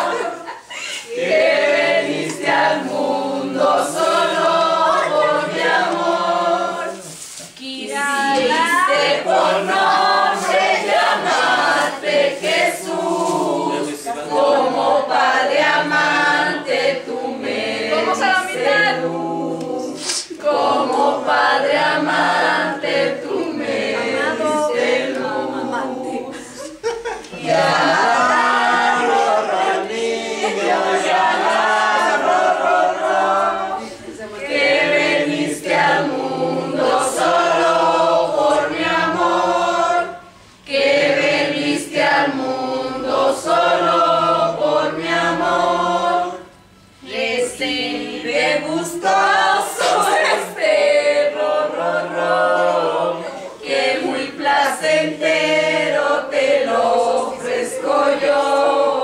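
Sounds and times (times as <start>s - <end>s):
group singing unaccompanied: 0.0s - 59.0s.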